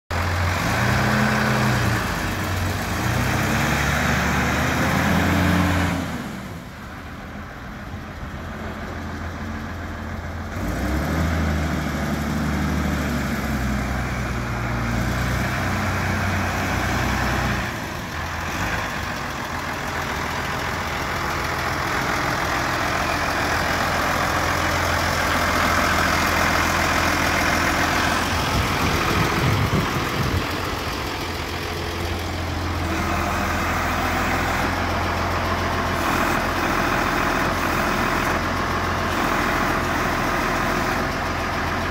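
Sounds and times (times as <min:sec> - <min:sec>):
tractor diesel engine running: 0:00.1 - 0:41.9.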